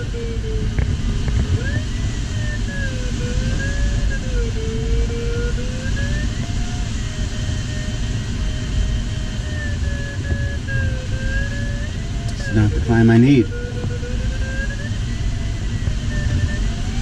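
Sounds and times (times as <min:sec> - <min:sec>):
steady airflow noise: 0:00.0 - 0:17.0
variometer tone wavering in pitch: 0:00.0 - 0:17.0.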